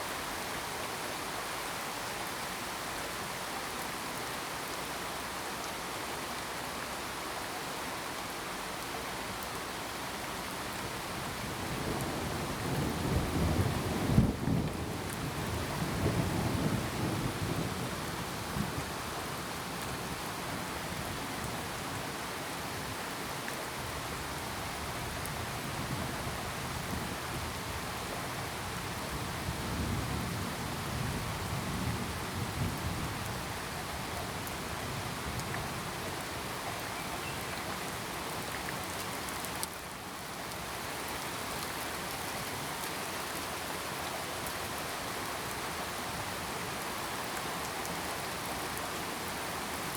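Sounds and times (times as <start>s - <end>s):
heavy rain falling: 8.6s - 49.9s.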